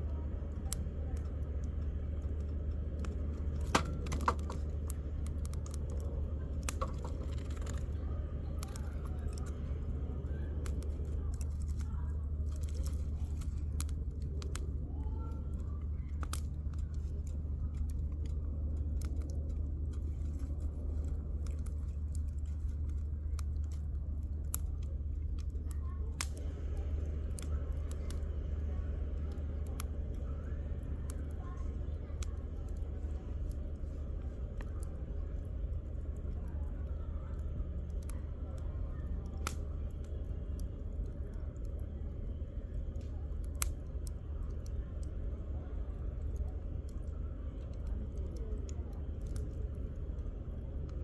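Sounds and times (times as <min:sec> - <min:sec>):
campfire crackling and popping: 0:00.0 - 0:51.0
low rumble: 0:00.0 - 0:51.0.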